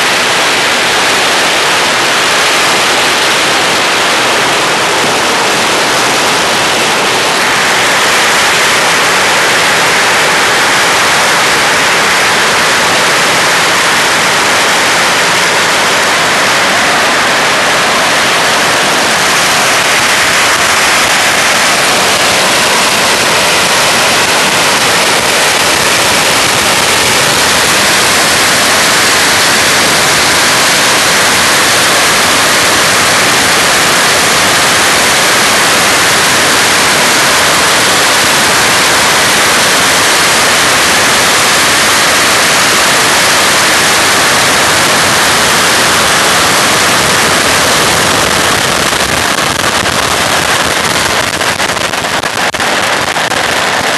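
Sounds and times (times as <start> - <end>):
firecrackers exploding: 0.0 - 53.9.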